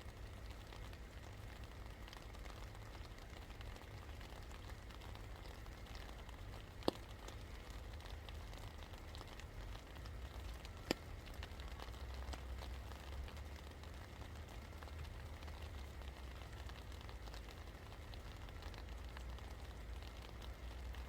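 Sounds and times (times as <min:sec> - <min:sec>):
low steady rumble: 0:00.0 - 0:21.0
rain pattering: 0:00.0 - 0:21.0
water drips: 0:00.1 - 0:21.0.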